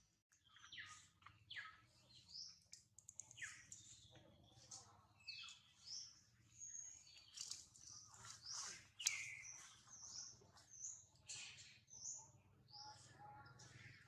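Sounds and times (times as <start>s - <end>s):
faint bird chirping: 0.3s - 14.0s.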